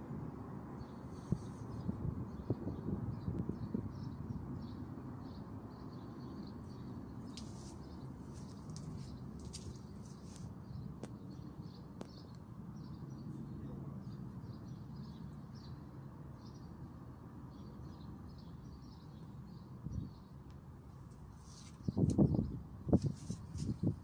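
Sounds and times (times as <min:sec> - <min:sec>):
small birds chirping: 0:00.8 - 0:24.0.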